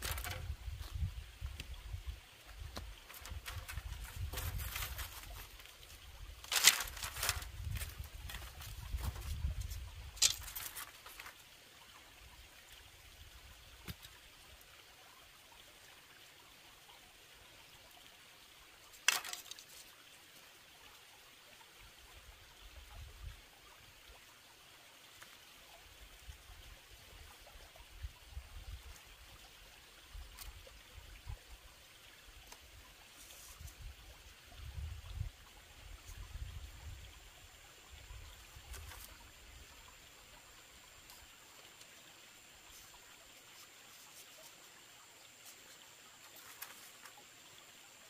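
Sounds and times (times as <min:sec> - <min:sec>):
trickling water: 0:00.0 - 0:48.0.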